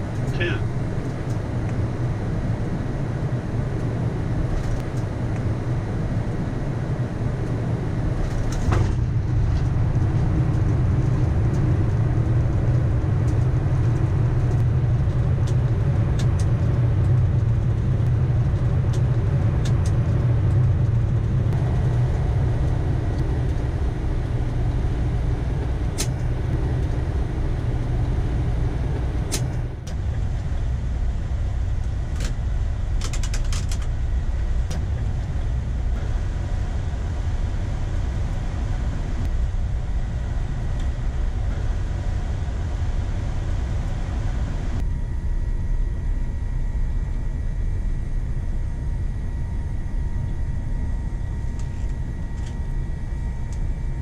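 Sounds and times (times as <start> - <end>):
airliner engines and wheels rumbling: 0.0 - 54.0.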